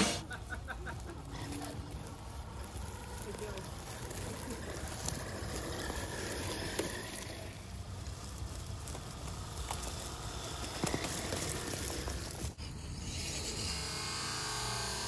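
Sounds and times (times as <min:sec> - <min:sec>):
toy car tyres crackling through leaves: 0:00.0 - 0:15.0.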